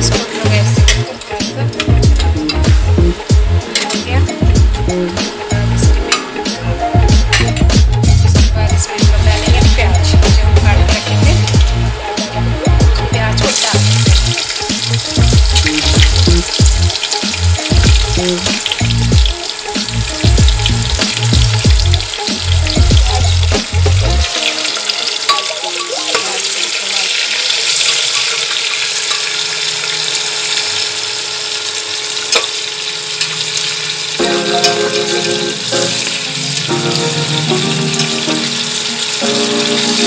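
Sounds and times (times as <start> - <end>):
background music with a beat: 0.0 - 26.4, 34.2 - 40.0
onions sizzling in hot oil: 0.0 - 40.0.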